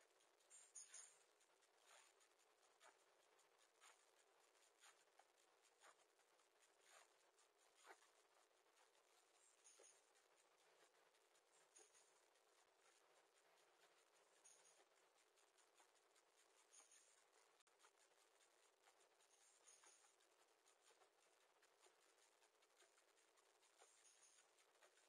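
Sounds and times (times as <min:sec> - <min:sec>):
faint high-pitched chirps: 0:00.0 - 0:03.0, 0:06.8 - 0:21.0, 0:21.8 - 0:25.0
soft scratchy ticks: 0:00.0 - 0:25.0.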